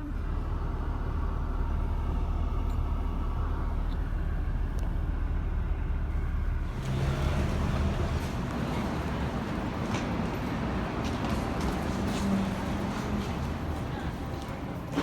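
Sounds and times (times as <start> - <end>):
low machinery rumble: 0.0 - 15.0.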